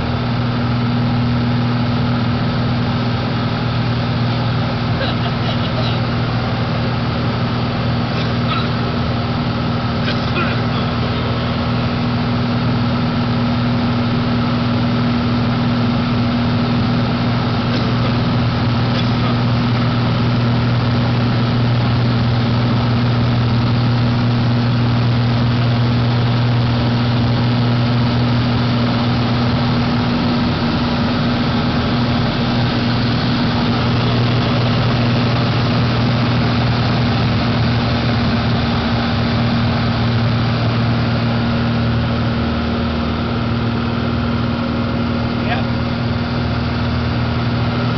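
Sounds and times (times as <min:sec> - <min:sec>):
light aircraft engine droning: 0:00.0 - 0:47.9.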